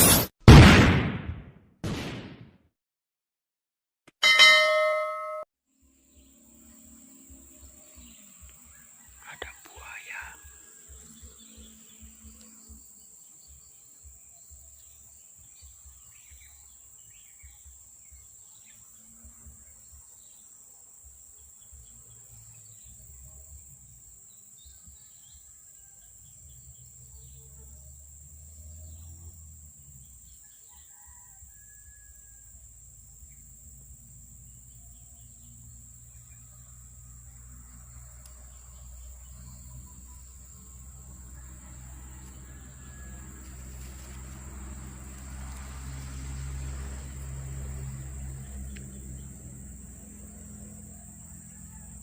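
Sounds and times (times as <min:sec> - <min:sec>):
high insect drone: 0:05.7 - 0:52.0.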